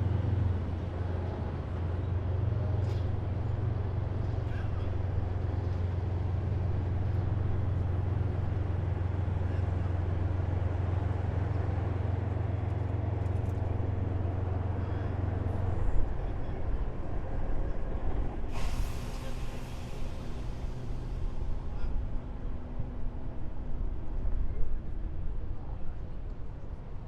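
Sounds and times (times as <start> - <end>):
heavy vehicle engine droning: 0.0 - 27.0.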